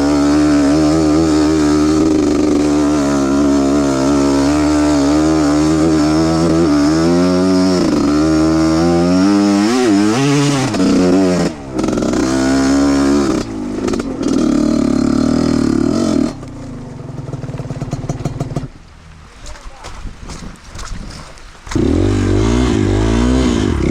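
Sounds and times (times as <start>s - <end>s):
motorcycle engine revving: 0.0s - 18.8s, 21.6s - 23.9s.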